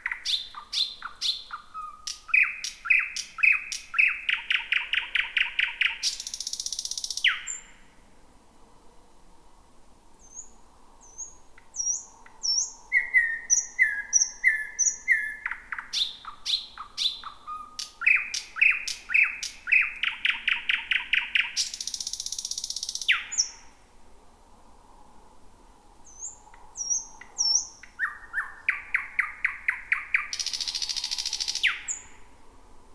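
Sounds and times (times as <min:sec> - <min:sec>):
thrush nightingale singing: 0:00.0 - 0:07.9, 0:10.2 - 0:23.8, 0:26.0 - 0:32.4.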